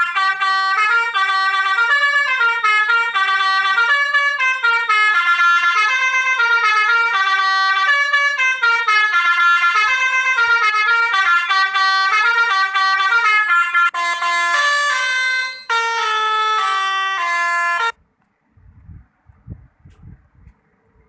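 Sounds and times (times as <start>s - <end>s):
multi-tone horn jingle: 0.0s - 18.0s.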